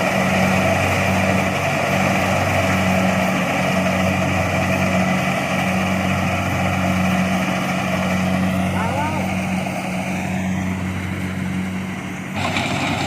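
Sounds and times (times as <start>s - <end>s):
diesel engine drone: 0.0s - 13.0s
threshing machinery: 0.0s - 13.0s.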